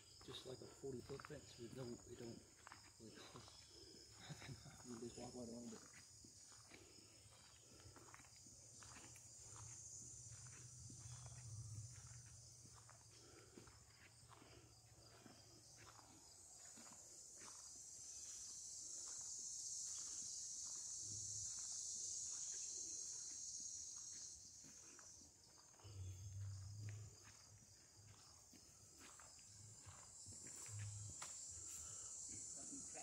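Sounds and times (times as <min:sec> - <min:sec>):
high-pitched insect chorus: 0:00.0 - 0:33.0
faint footsteps: 0:00.1 - 0:32.5.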